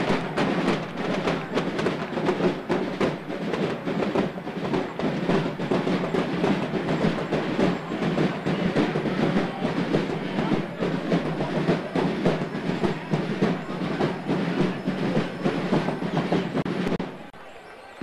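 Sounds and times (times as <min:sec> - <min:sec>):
crowd noise: 0:00.0 - 0:18.0
parade band music and percussion: 0:00.0 - 0:18.0.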